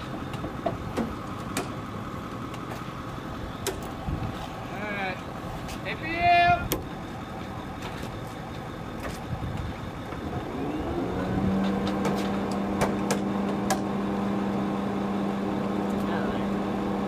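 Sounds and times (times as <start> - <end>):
machinery noise: 0.0 - 17.0.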